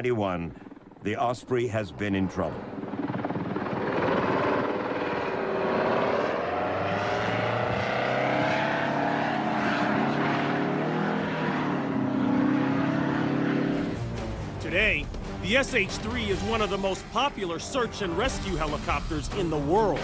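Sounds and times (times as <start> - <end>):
aircraft engines and rotors droning: 0.0 - 20.0.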